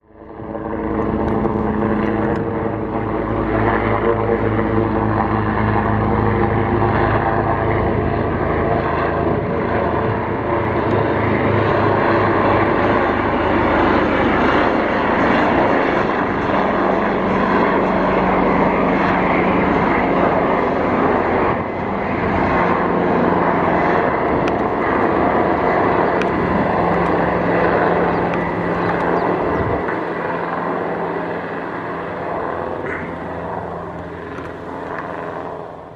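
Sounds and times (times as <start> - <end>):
helicopter flying over: 0.0 - 35.9.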